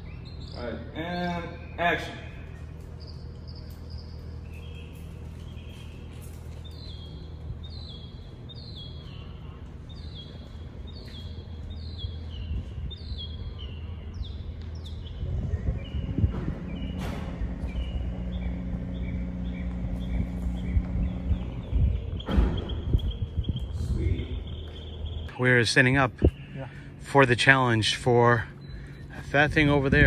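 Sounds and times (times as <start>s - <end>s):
low steady hum: 0.0s - 30.0s
low rumble: 2.3s - 27.2s.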